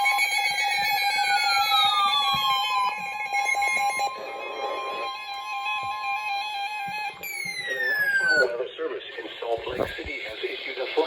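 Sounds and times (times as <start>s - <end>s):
electronic alarm tones: 0.4s - 10.4s.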